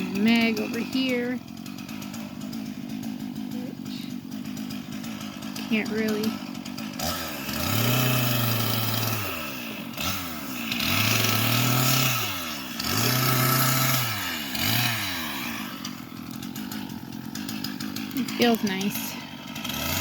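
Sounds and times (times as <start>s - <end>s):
chainsaw cutting firewood: 0.0s - 20.0s.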